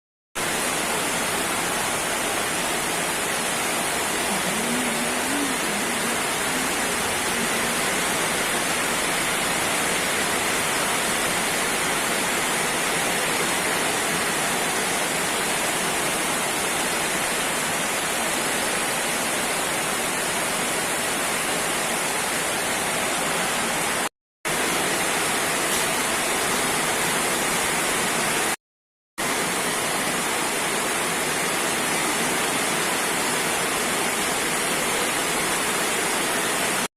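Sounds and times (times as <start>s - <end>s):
heavy rain pouring: 0.4s - 28.6s, 29.2s - 36.9s.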